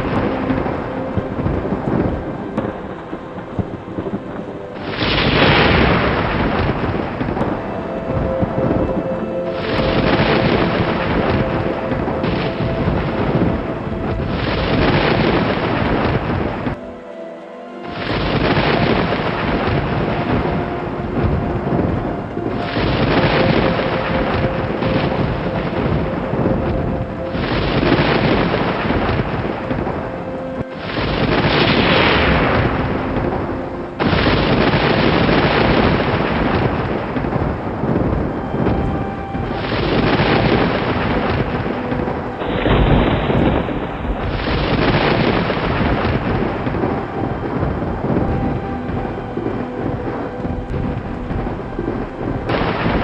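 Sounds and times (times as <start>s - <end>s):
faint steady tones: 0.0s - 53.0s
steady rain: 0.0s - 53.0s
thunder rumbling: 0.0s - 53.0s.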